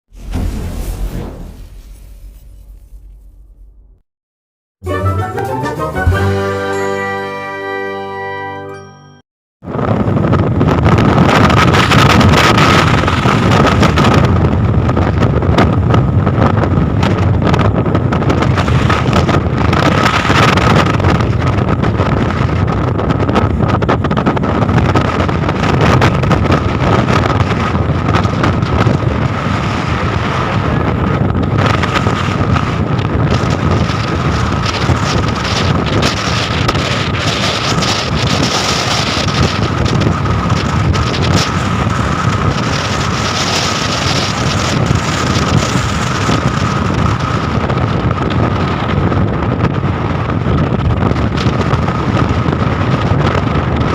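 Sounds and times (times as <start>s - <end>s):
wind buffeting microphone: 9.6s - 53.9s.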